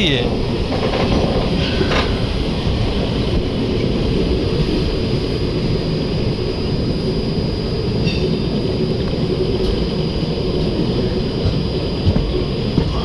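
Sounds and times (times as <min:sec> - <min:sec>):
train rumble: 0:00.0 - 0:13.0
faint high whine: 0:01.5 - 0:13.0.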